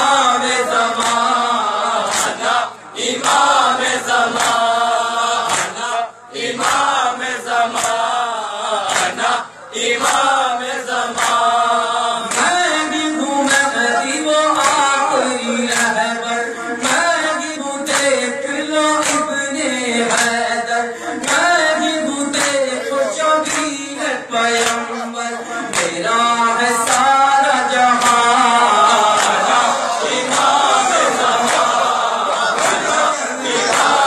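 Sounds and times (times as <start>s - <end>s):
men chanting a lament: 0.0s - 34.0s.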